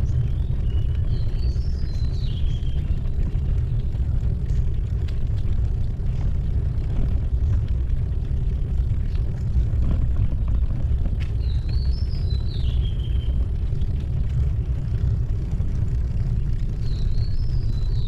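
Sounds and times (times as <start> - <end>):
tyres rolling on brick path: 0.0 - 18.0
wind on microphone: 0.0 - 18.0.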